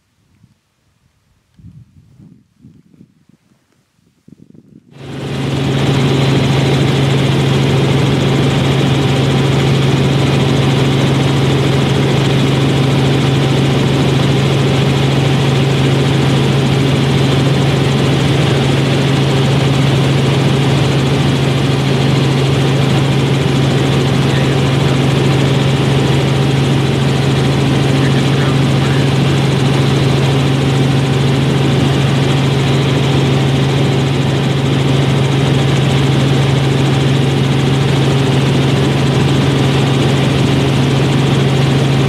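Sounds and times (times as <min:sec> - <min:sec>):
aircraft engine drone in cabin: 0:01.8 - 0:42.0.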